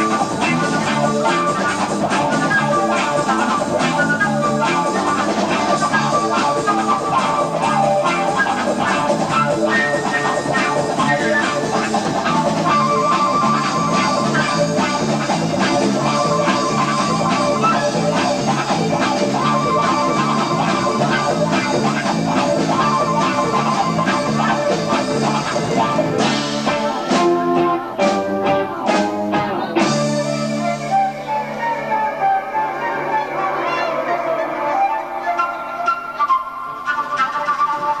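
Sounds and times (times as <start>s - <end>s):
electric guitar lead: 0.0s - 38.0s
rock band playing live: 0.0s - 38.0s.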